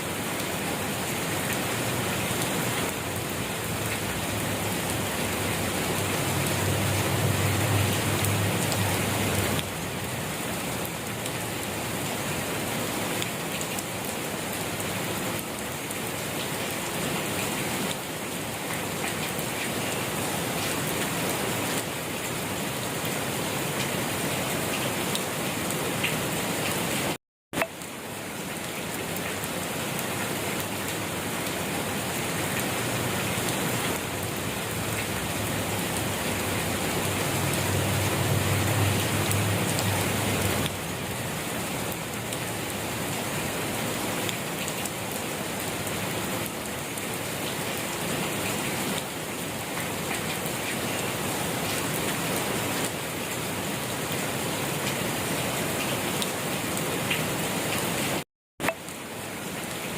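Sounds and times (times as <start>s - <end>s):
rain falling steadily: 0.0s - 59.9s.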